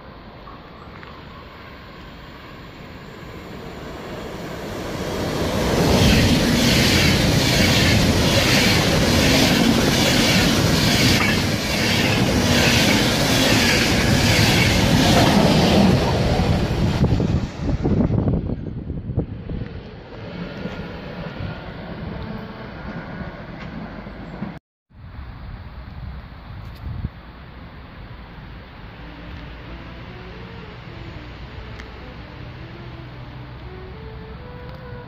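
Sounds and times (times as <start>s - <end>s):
train passing: 0.0s - 26.2s, 27.2s - 35.0s.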